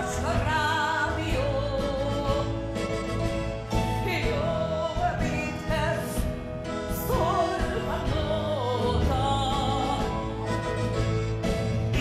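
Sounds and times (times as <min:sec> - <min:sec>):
instrumental accompaniment: 0:00.0 - 0:12.0
woman singing: 0:00.0 - 0:12.0.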